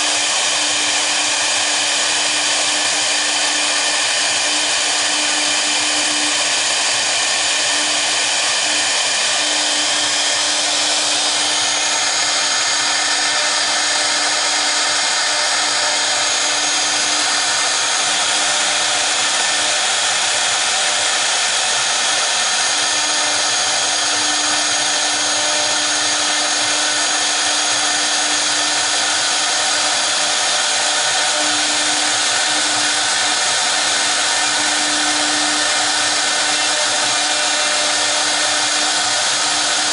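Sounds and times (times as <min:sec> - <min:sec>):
router spindles whining and hissing: 0:00.0 - 0:39.9.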